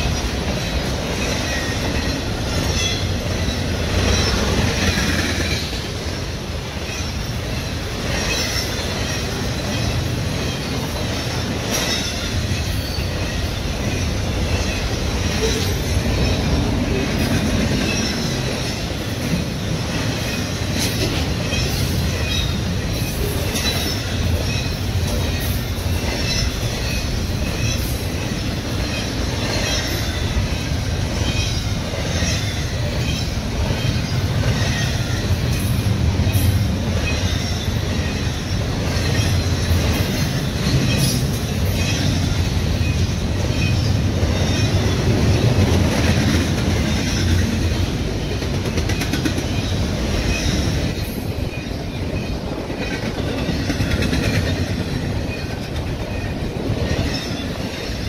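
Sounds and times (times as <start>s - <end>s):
freight train wheels rumbling: 0.0s - 58.0s
train wheels clicking: 0.0s - 58.0s.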